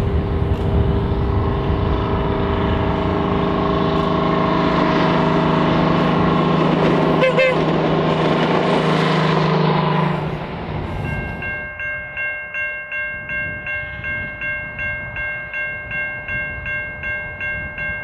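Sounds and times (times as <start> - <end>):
diesel railcar engine passing: 0.0 - 18.0.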